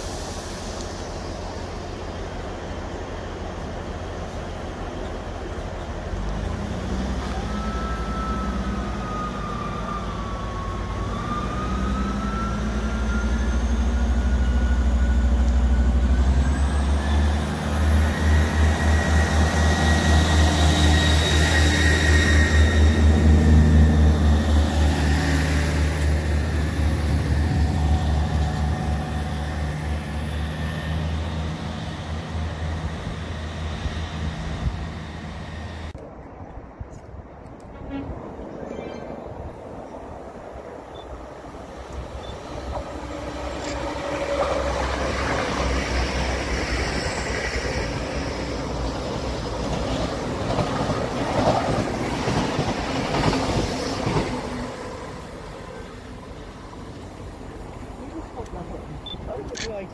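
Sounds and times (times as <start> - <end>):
diesel train engines droning: 0.0 - 59.9
train passing with rumble and whine: 0.0 - 59.9.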